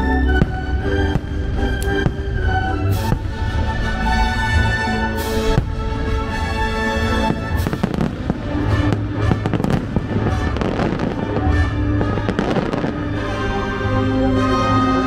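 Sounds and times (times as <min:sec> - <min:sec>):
music soundtrack: 0:00.0 - 0:15.0
fireworks bursting and crackling: 0:00.2 - 0:13.6.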